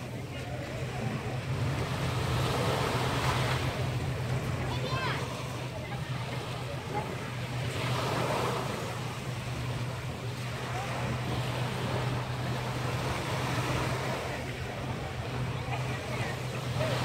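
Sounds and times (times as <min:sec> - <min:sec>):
sea waves washing in: 0:00.0 - 0:17.0
steady low hum: 0:00.0 - 0:17.0.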